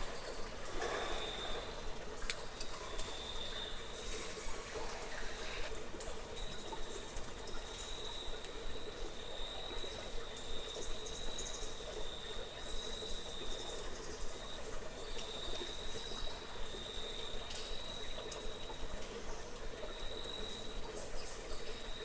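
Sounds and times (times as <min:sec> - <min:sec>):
flowing water: 0:00.0 - 0:22.0.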